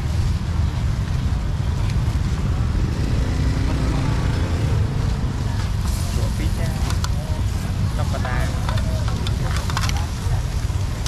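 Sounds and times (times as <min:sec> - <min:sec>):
street traffic rumble: 0:00.0 - 0:11.0
vehicle engine hum: 0:00.0 - 0:11.0.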